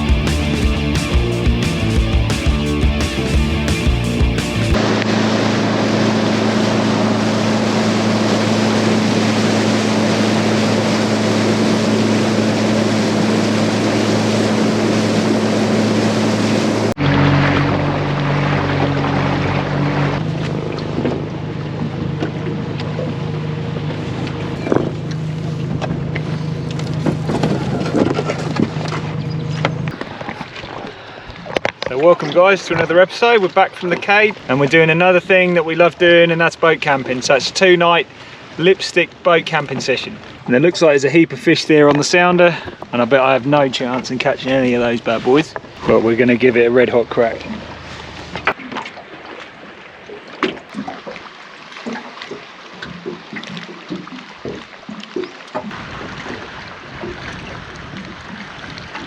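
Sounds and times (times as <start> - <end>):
outboard motor running: 0.0 - 59.0
water rushing: 0.0 - 59.0
wind: 0.0 - 59.0.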